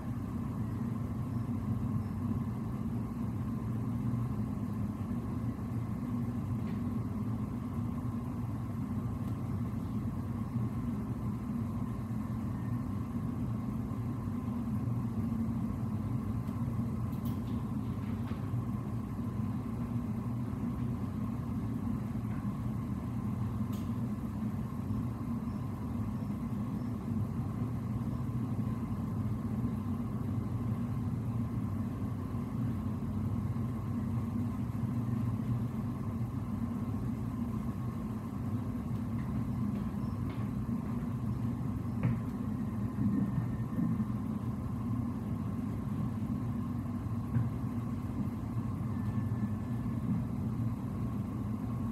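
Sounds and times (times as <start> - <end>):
faint steady whine: 0.0 - 51.9
ship engine and ventilation drone: 0.0 - 51.9.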